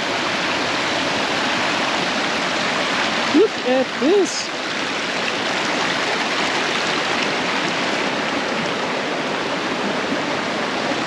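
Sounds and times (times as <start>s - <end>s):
creek rushing over stones: 0.0s - 11.0s.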